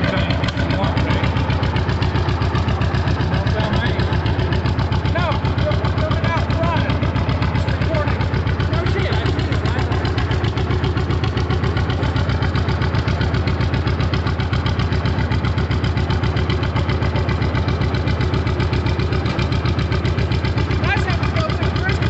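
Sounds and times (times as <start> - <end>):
tractor engine popping: 0.0 - 22.0.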